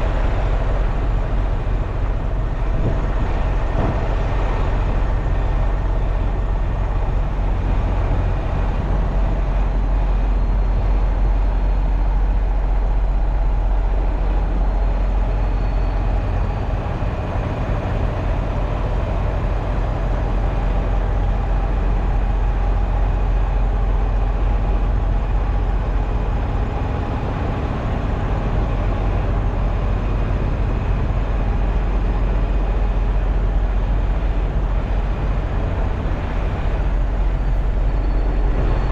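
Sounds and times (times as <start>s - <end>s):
rush of noise: 0.0s - 38.9s
truck diesel drone: 0.0s - 38.9s.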